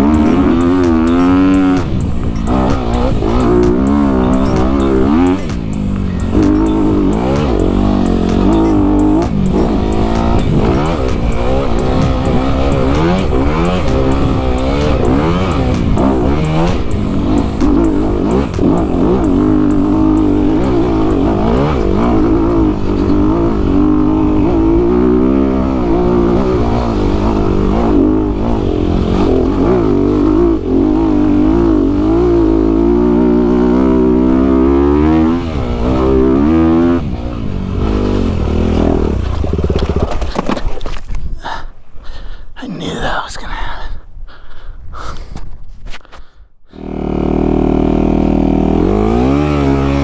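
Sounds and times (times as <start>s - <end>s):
dirt bike engine revving: 0.0s - 40.4s, 46.7s - 50.0s.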